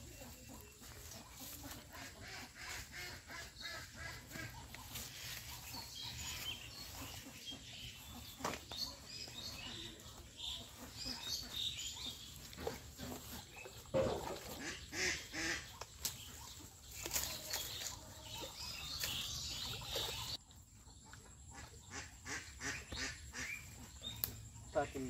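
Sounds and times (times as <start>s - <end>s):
pole rustling through water plants: 0.1s - 21.7s.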